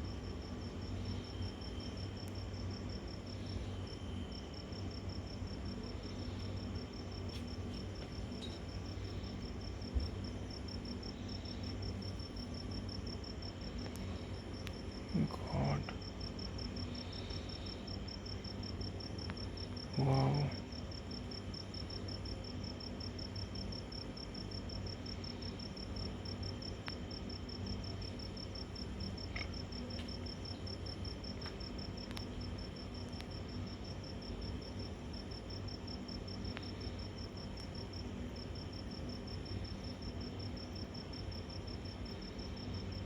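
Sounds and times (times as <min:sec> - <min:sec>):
cricket chirping: 0:00.0 - 0:43.0
low steady hum: 0:00.0 - 0:43.0.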